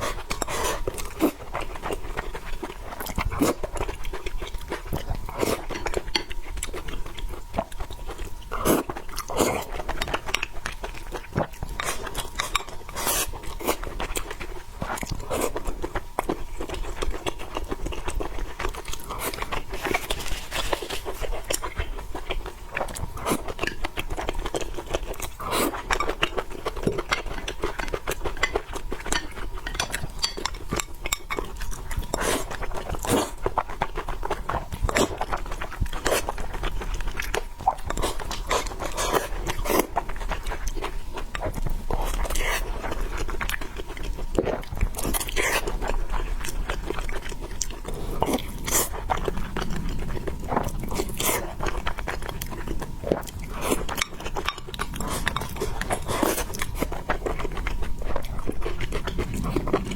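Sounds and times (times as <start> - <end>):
chewing with wet mouth clicks: 0.0 - 59.9.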